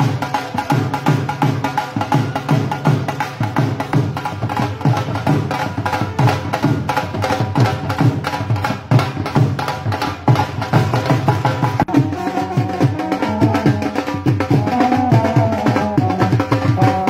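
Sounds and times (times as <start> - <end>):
band instruments: 0.0 - 17.0
drums beating fast rhythm: 0.0 - 17.0.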